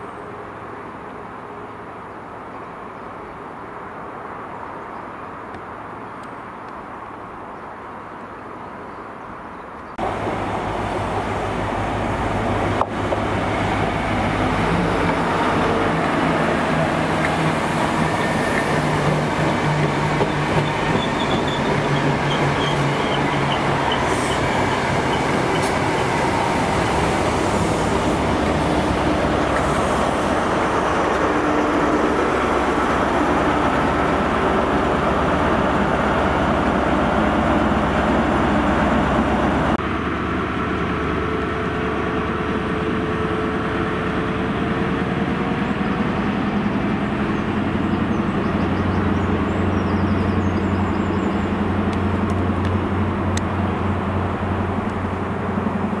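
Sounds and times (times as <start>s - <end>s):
wheels rumbling on rails: 9.8s - 56.0s
diesel train engines running: 10.0s - 56.0s.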